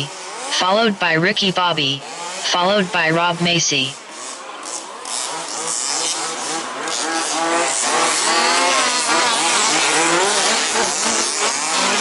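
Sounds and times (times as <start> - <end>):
radio-controlled buggy motors revving: 0.0 - 12.0.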